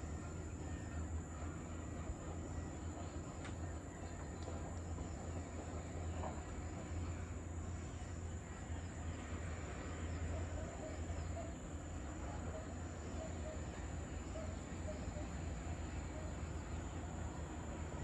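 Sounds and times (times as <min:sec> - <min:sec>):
constant low rumble: 0:00.0 - 0:18.0
high insect drone: 0:00.0 - 0:18.0.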